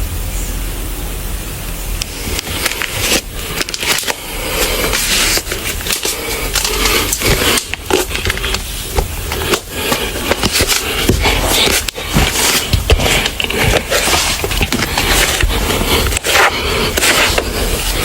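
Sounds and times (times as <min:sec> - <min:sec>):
rustling and scraping: 0:02.0 - 0:18.0.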